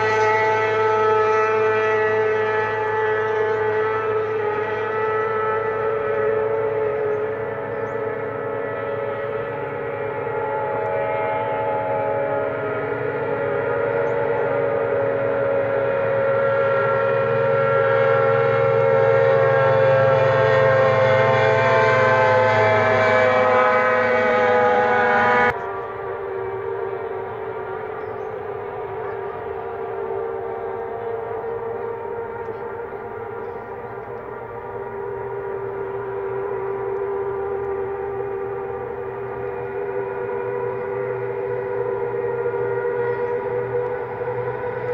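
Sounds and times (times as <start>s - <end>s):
racing boat engines whining: 0.0s - 44.9s.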